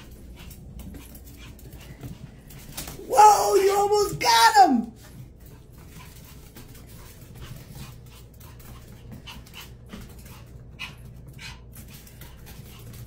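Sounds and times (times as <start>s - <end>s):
small dog panting: 0.0s - 2.9s, 5.0s - 13.0s.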